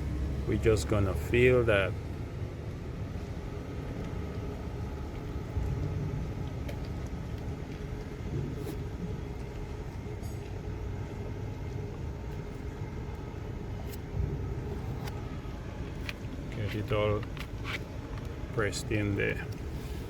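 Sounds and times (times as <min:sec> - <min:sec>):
faint machine hum: 0:00.0 - 0:20.0.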